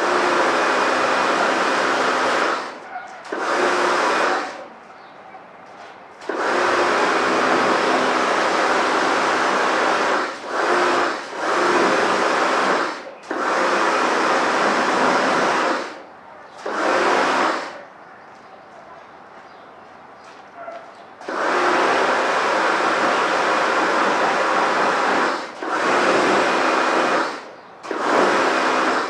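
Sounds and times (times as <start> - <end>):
pressure washer spraying water: 0.0 - 4.7, 6.2 - 16.0, 16.6 - 17.8, 21.2 - 29.0.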